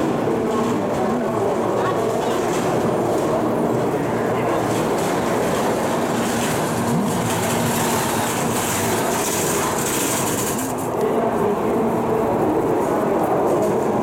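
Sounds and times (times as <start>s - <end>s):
train rolling rumble: 0.0s - 14.0s.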